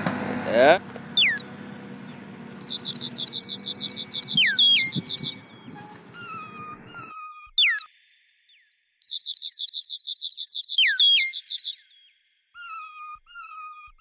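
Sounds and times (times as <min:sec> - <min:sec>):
birds whistling falling notes: 0:01.0 - 0:13.9
high-pitched chirping trill: 0:01.2 - 0:14.0.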